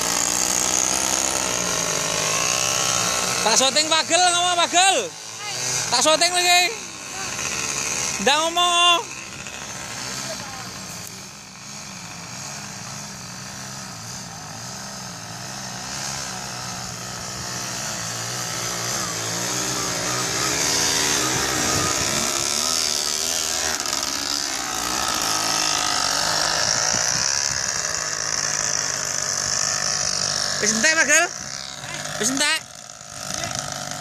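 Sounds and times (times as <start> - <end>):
small motorcycle engine revving: 0.0 - 34.0.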